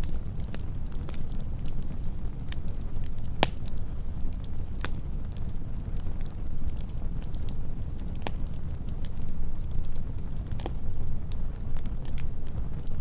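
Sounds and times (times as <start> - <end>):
campfire rumble and crackles: 0.0 - 13.0
cricket chirping: 0.0 - 13.0.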